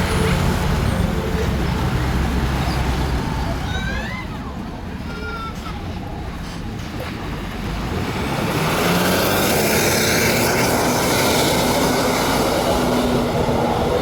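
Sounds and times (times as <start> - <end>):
bus driving past: 0.0 - 4.0, 6.0 - 14.0.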